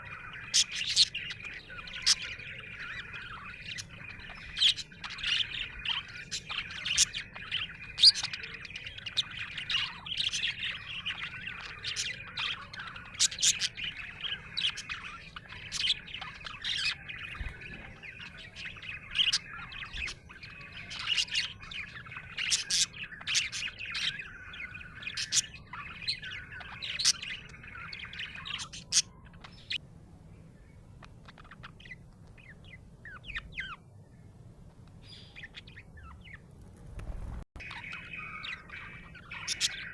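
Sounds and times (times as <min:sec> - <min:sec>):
budgerigar chirping and warbling: 0:00.0 - 0:29.8, 0:31.0 - 0:33.8, 0:34.7 - 0:36.5, 0:37.1 - 0:39.9.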